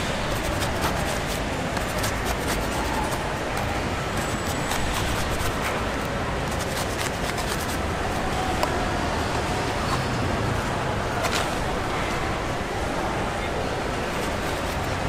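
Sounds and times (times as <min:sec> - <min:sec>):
street market background noise: 0:00.0 - 0:15.0.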